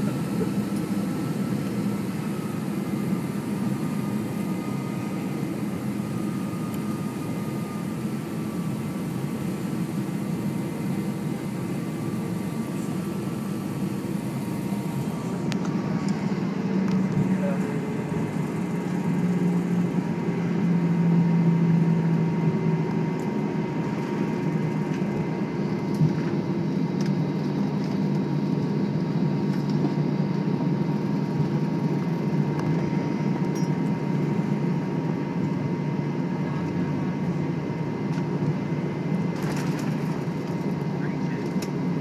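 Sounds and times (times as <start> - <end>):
low hum of aircraft cabin: 0.0 - 42.0.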